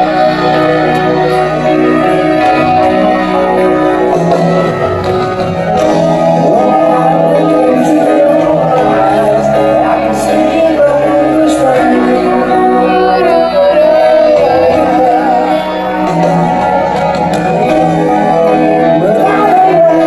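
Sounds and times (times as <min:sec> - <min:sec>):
man singing: 0:00.0 - 0:04.8, 0:05.6 - 0:20.0
live rock ballad: 0:00.0 - 0:20.0.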